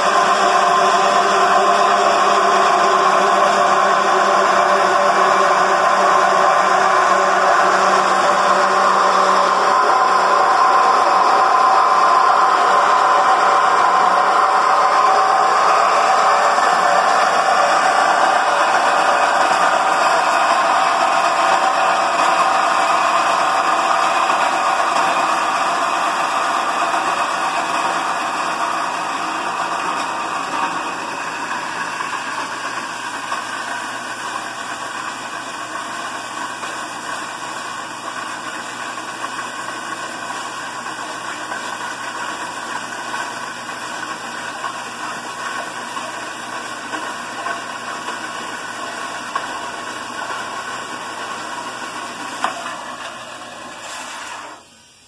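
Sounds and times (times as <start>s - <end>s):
band saw cutting metal: 0.0s - 54.6s.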